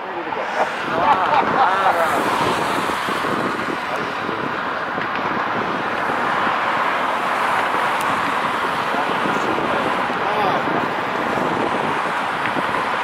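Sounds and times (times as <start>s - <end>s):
city traffic rush: 0.0s - 13.0s.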